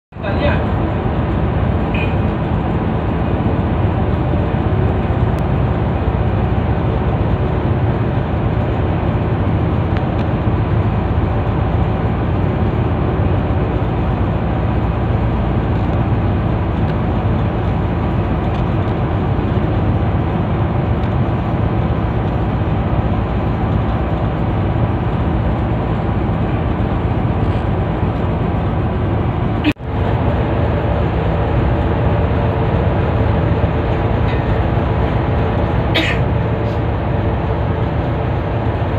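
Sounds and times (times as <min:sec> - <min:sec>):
boat engine droning: 0:00.1 - 0:38.9.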